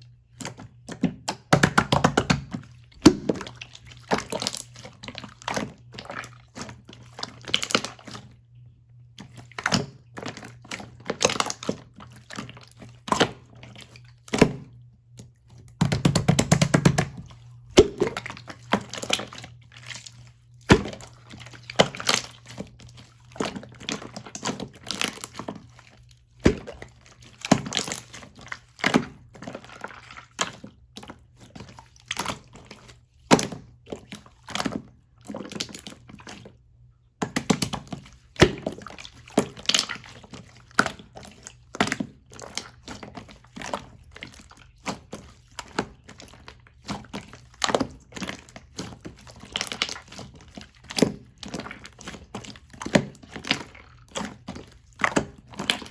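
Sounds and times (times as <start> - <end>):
slime squishing with sticky pops: 0.1 - 8.3, 9.0 - 55.9.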